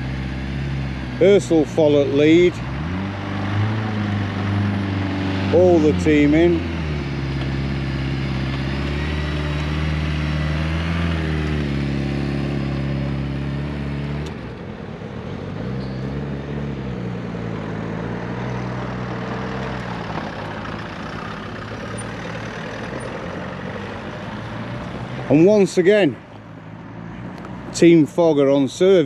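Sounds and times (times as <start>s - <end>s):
vehicle engines driving past: 0.0s - 29.0s.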